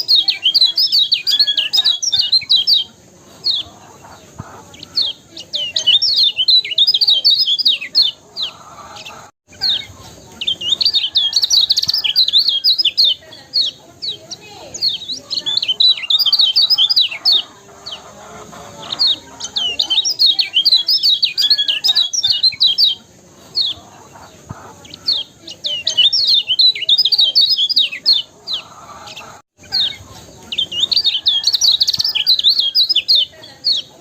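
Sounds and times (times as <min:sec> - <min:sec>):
bird chirping and trilling: 0:00.0 - 0:23.9, 0:24.8 - 0:34.0.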